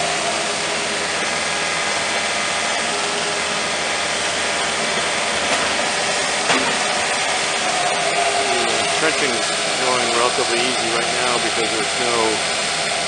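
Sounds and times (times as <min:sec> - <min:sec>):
trenching machine engine running: 0:00.0 - 0:13.0.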